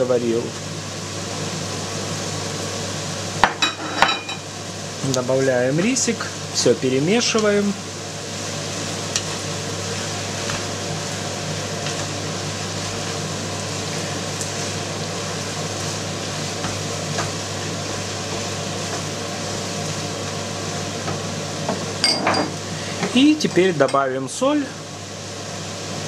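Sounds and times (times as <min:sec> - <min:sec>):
meat and rice sizzling in pan: 0:00.0 - 0:26.0.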